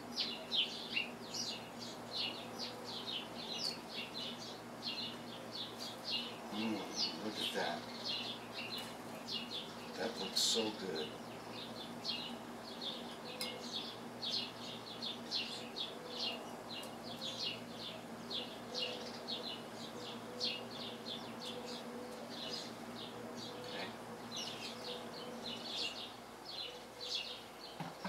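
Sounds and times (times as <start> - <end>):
bird chirping: 0.0 - 28.0
faint steady hum: 0.0 - 28.0.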